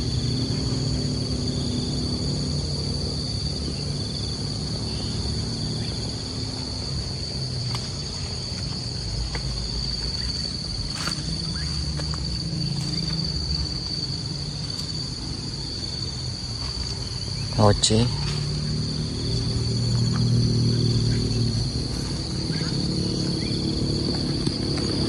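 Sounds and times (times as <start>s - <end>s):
insects shrill drone: 0.0s - 25.0s.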